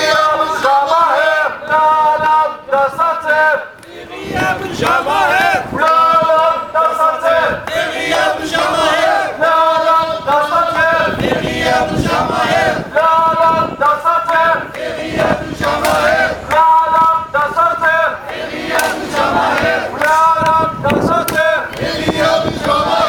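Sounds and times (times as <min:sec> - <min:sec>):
crowd chanting in unison: 0:00.0 - 0:23.0.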